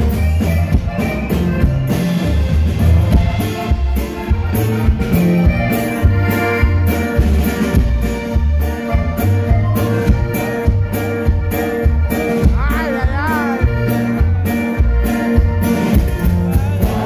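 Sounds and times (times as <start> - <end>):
bajo sexto: 0.0 - 17.0
button accordion melody: 0.0 - 17.0
drum kit beat: 0.0 - 17.0
electric bass walking line: 0.0 - 17.0.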